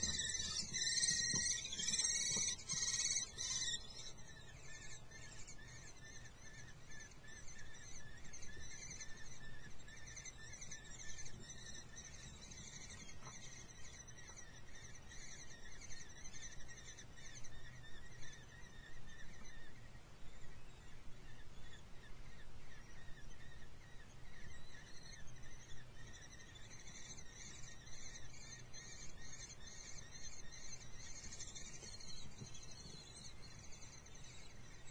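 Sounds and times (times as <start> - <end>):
bird chicks begging calls: 0.0 - 34.9.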